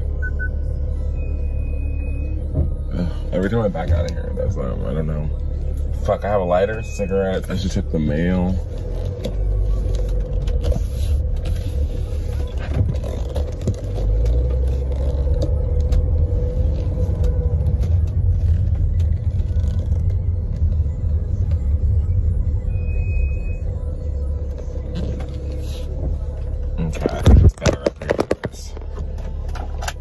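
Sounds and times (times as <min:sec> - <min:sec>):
car rumbling inside cabin: 0:00.0 - 0:30.0.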